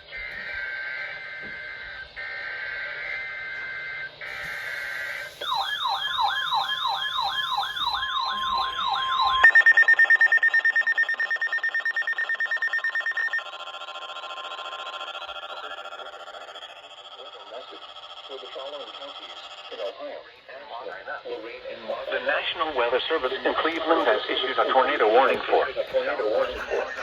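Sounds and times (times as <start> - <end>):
siren-like warble: 0.0 - 20.1, 22.2 - 27.0
rapid electronic beeping: 0.0 - 27.0.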